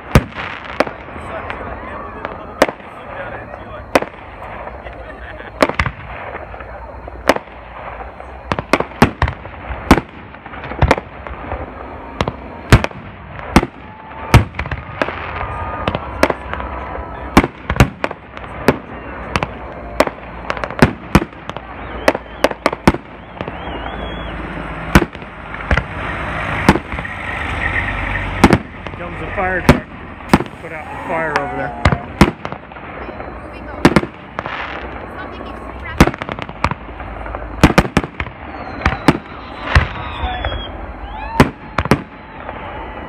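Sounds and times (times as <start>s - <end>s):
fireworks bursting: 0.0s - 43.0s
steady background rumble: 0.0s - 43.0s.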